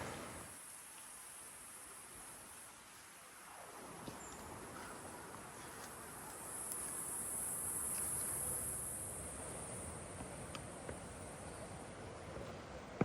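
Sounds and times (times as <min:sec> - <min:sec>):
low rushing background noise: 0:00.0 - 0:13.0
rainforest insects droning: 0:00.0 - 0:13.0.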